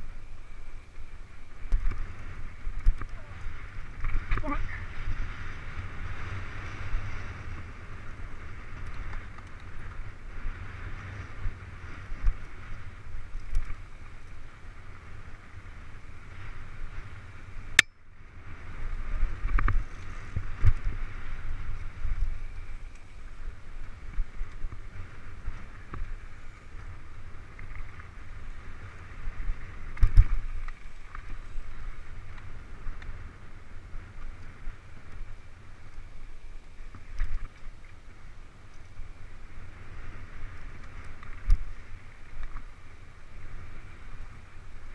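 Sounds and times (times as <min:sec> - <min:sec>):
wind and trail rumble: 0:00.0 - 0:44.9.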